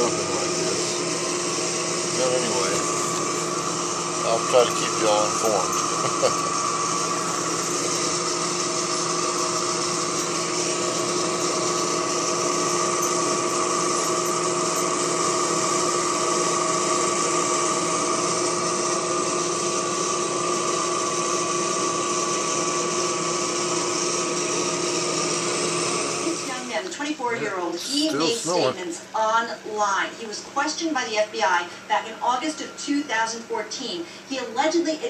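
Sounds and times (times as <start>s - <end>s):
fan motor whirring: 0.0s - 35.0s.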